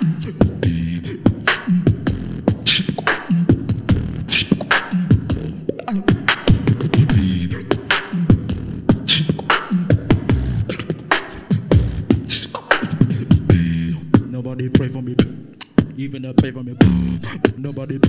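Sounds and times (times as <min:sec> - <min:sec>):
beatboxing into a microphone: 0:00.0 - 0:18.0.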